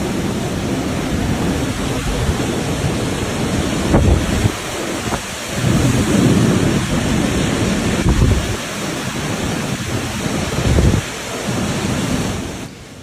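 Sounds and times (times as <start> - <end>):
wind buffeting microphone: 0.0 - 12.7
heavy rain: 0.0 - 13.0
strong wind: 0.0 - 13.0.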